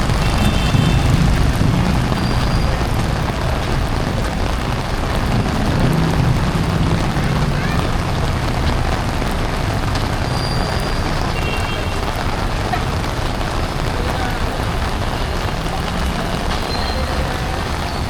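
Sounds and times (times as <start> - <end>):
heavy rain on street: 0.0 - 18.0
road traffic rumble: 0.0 - 18.0.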